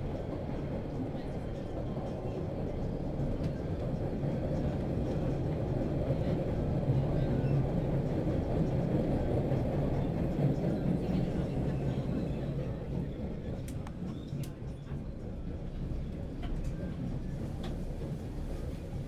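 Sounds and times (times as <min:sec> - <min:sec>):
metro train rumbling: 0:00.0 - 0:19.0.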